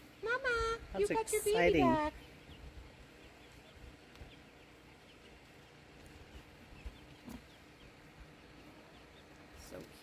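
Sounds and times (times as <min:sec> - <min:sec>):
distant birds chirping: 0:00.0 - 0:10.0.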